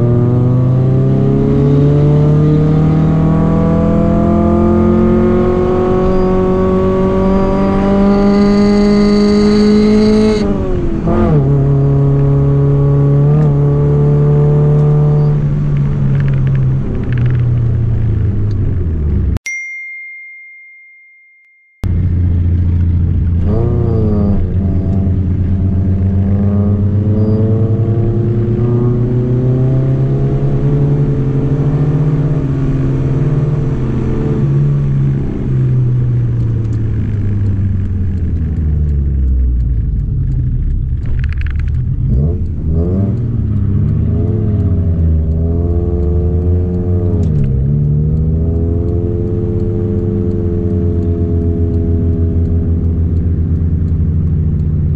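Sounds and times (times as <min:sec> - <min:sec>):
car engine pulling uphill: 0:00.0 - 0:19.4, 0:21.8 - 0:54.9.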